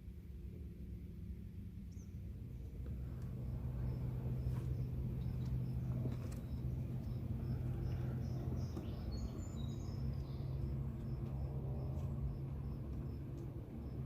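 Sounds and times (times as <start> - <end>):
steady low hum: 0.0 - 14.0
bird chirping: 1.9 - 2.7, 3.4 - 14.0.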